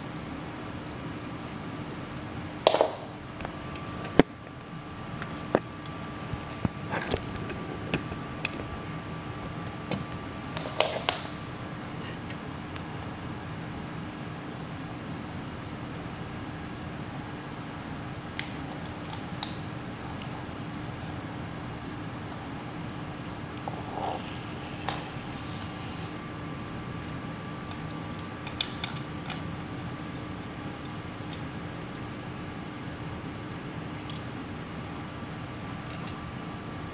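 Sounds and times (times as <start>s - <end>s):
faint hum: 0.0s - 36.9s.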